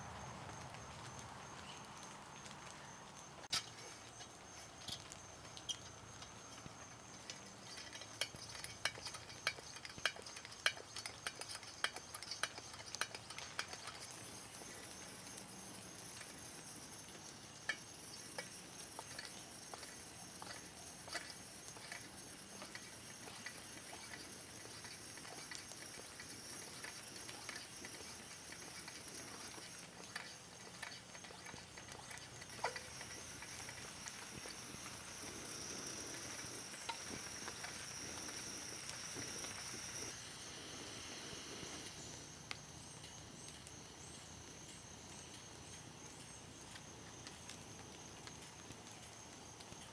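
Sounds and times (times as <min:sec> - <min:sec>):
steady high hiss: 0:00.0 - 0:49.9.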